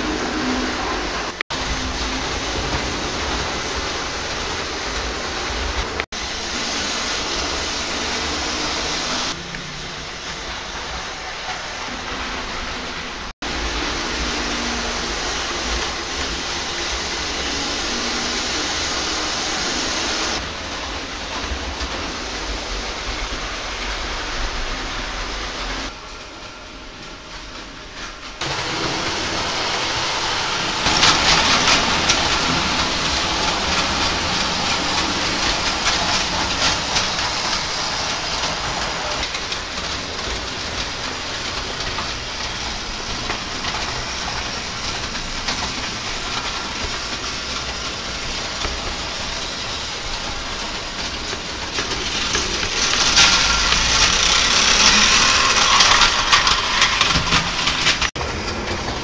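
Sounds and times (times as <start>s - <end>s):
model trains rattling on metal track: 0.0s - 59.0s.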